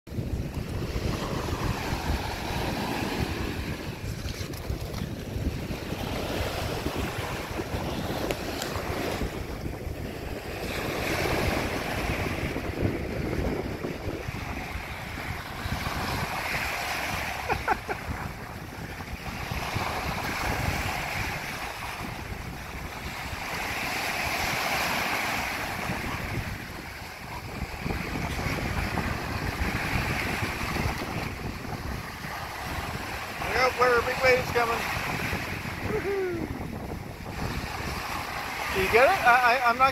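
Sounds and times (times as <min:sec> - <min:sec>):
surf breaking on shore: 0:00.1 - 0:39.9
wind buffeting microphone: 0:00.1 - 0:39.9.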